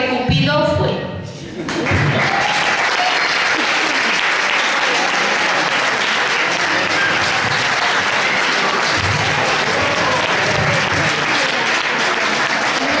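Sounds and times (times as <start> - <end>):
crowd applauding: 1.6 - 13.0.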